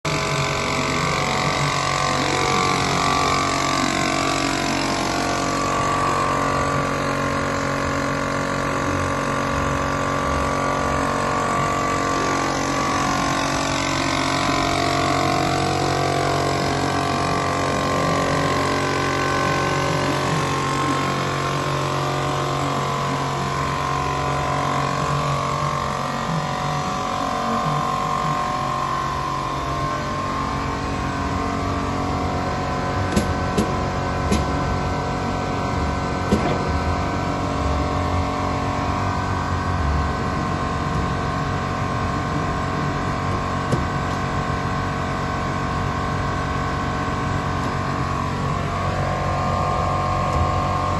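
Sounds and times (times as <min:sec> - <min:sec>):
belt sander running: 0:00.0 - 0:50.9.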